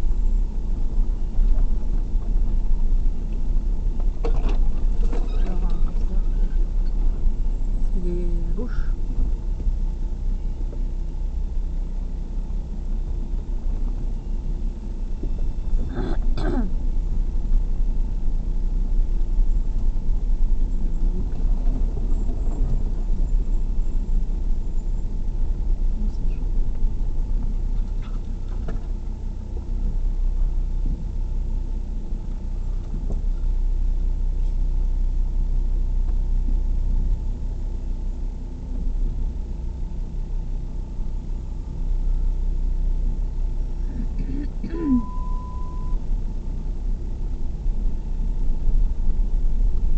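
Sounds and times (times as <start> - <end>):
vehicle engine and tyres rumbling: 0.0 - 49.9.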